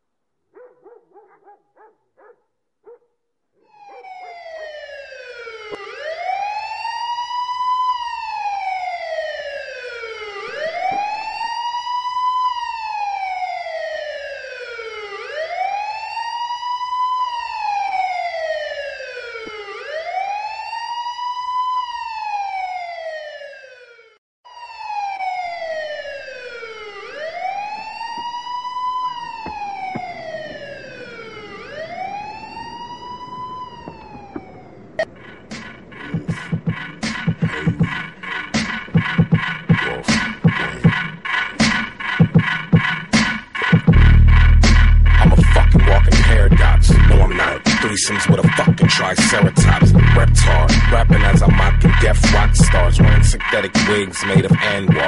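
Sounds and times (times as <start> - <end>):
siren wailing: 3.6 - 55.0.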